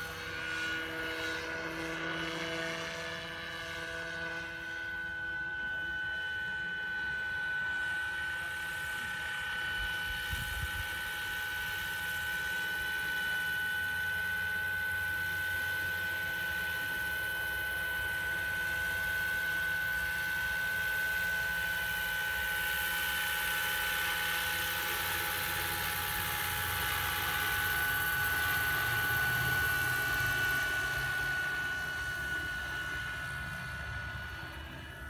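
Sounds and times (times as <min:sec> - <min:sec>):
model helicopter whine: 0:00.0 - 0:35.0.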